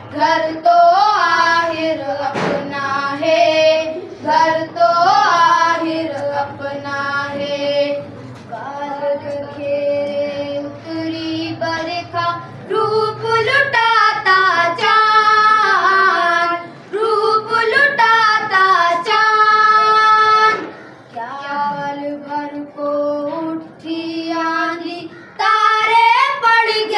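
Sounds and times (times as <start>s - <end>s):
boys singing a cappella: 0.0s - 26.9s.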